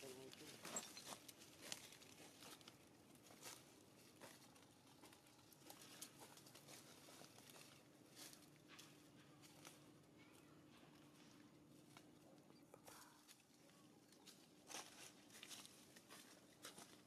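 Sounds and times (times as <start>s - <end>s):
dry leaves rustling: 0.0s - 9.9s, 12.8s - 17.0s.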